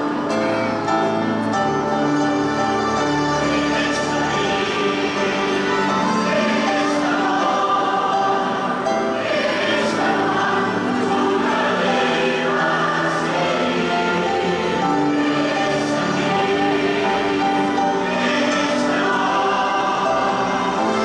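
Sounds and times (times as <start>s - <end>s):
mixed choir singing a hymn: 2.6s - 21.0s.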